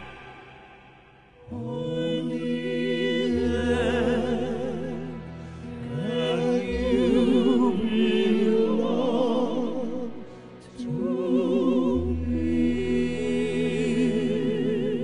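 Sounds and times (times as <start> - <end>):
operatic voices singing: 0.0 - 15.0.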